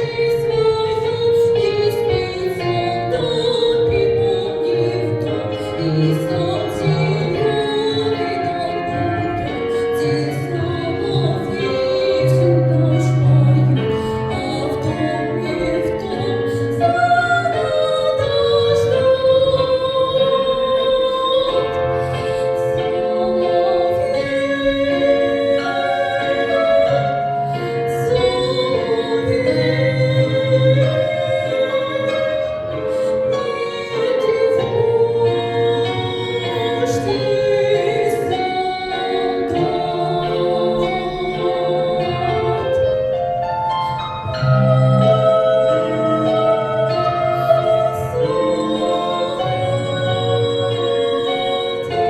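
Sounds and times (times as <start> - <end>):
instrumental backing with bass: 0.0 - 52.0
woman singing: 0.0 - 52.0.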